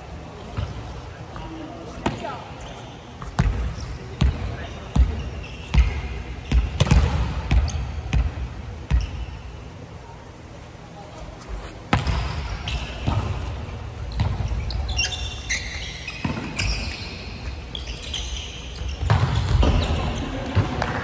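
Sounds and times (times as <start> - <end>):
sneakers squeaking on wooden court: 0.4 - 9.8, 11.8 - 21.0.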